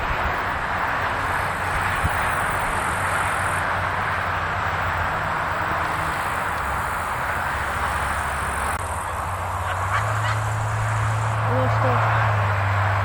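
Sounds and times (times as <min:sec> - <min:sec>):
wind rushing through trees: 0:00.0 - 0:13.0.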